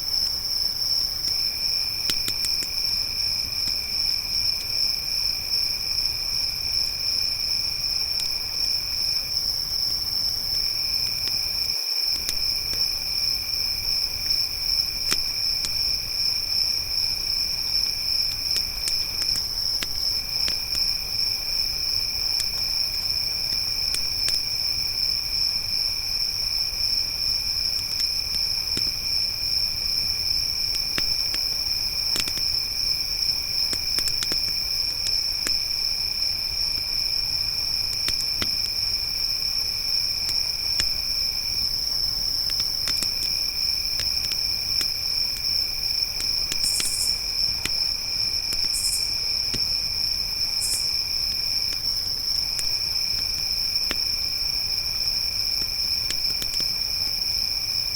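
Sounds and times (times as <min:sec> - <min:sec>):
campfire crackling: 0:00.0 - 0:57.4
crickets chirring: 0:00.0 - 0:57.9.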